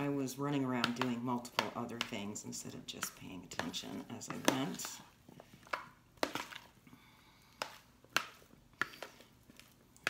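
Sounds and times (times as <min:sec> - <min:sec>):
soft squishing of food: 0:00.0 - 0:10.0.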